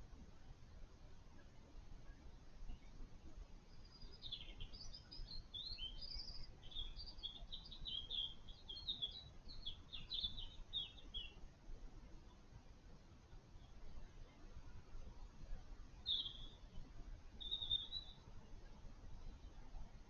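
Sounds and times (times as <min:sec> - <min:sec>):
faint low background rumble: 0:00.0 - 0:20.0
songbird singing: 0:01.0 - 0:20.0.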